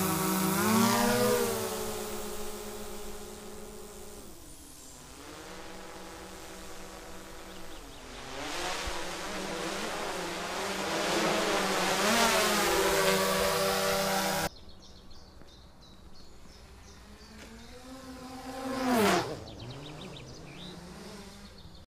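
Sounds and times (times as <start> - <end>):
drone fly-by buzz: 0.0 - 14.5, 15.9 - 21.9
drone motor hum: 0.0 - 14.5, 16.4 - 21.8.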